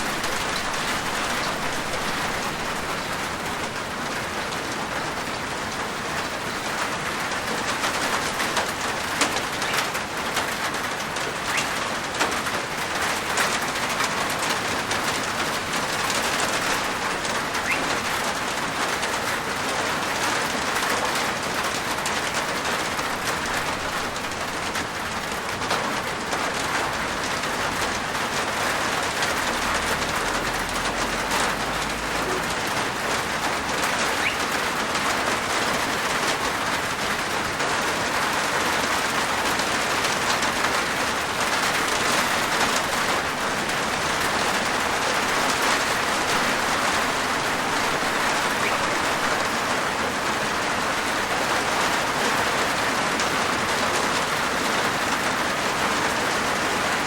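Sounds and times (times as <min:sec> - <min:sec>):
rain on a rooftop: 0:00.0 - 0:57.0.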